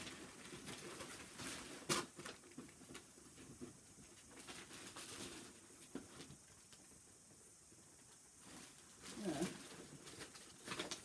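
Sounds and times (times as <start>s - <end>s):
faint rustling of handled objects: 0.0s - 11.0s.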